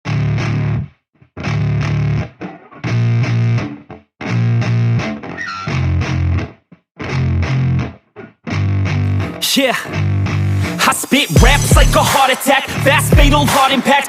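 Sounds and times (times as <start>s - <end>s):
distorted electric guitar chugging: 0.1s - 14.0s.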